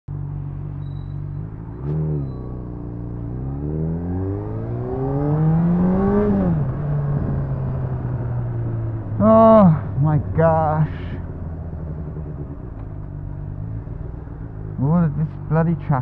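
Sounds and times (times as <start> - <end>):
motorcycle engine revving: 0.2 - 15.5.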